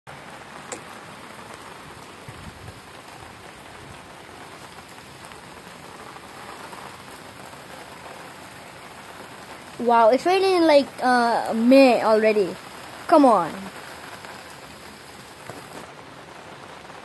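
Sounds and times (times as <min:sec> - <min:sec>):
steady rain falling: 0:00.1 - 0:17.0.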